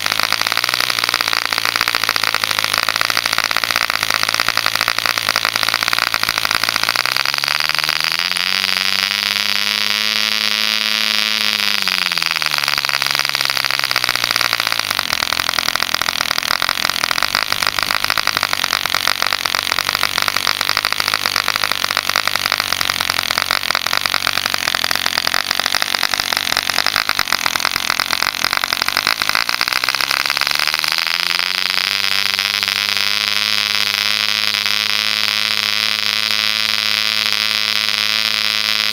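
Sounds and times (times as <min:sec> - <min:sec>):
model engine buzzing: 0:00.0 - 0:38.9.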